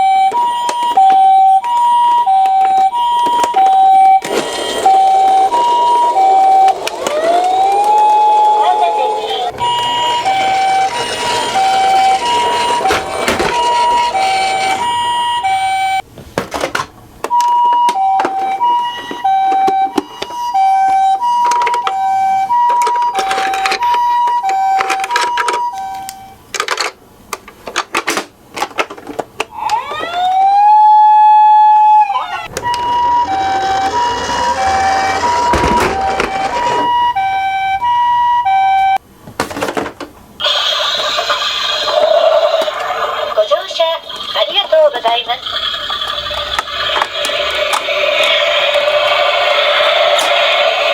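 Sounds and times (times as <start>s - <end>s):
toy two-tone siren: 0.0s - 16.0s, 17.3s - 26.4s, 29.5s - 39.0s, 40.4s - 50.9s.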